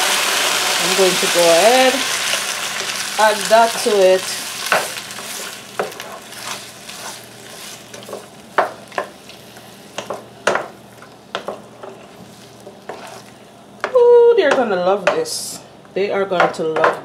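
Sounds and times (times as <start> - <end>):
vegetables sizzling in a pan: 0.0 - 14.7.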